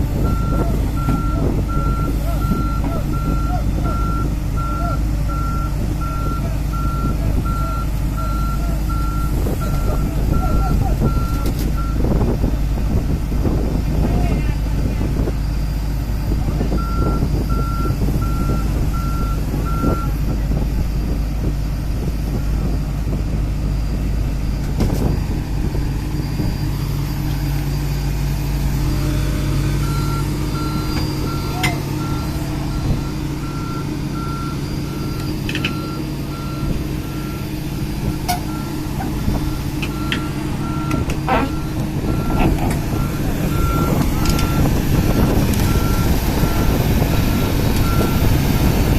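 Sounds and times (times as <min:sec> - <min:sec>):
diesel engine running: 0:00.0 - 0:48.9
reversing alarm beeping: 0:00.2 - 0:12.1, 0:15.4 - 0:20.4, 0:25.9 - 0:48.9.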